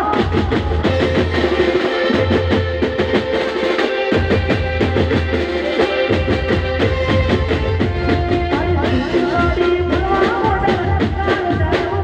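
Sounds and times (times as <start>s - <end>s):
dhol and drum kit rhythm: 0.0s - 12.0s.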